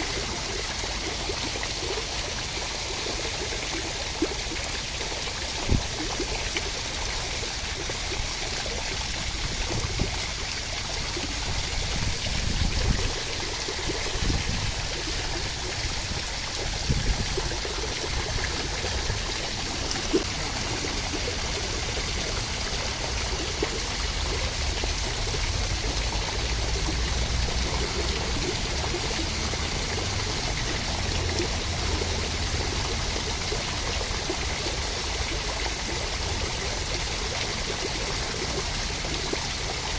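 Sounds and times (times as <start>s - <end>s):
rain spatters: 0.0s - 39.9s
steady rain: 0.0s - 39.9s.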